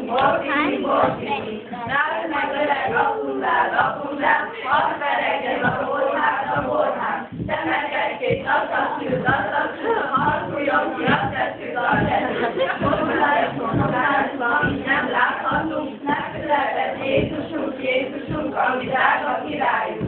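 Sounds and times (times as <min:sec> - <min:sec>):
group singing in chorus: 0:00.0 - 0:20.0.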